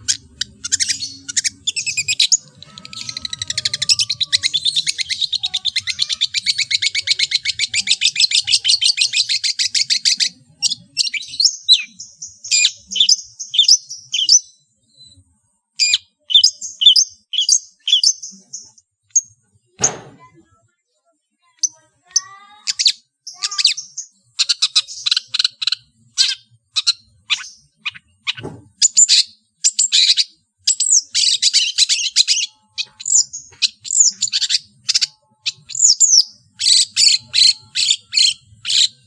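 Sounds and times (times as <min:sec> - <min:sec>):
bird singing trills and sharp notes: 0:00.0 - 0:20.4, 0:21.6 - 0:39.0.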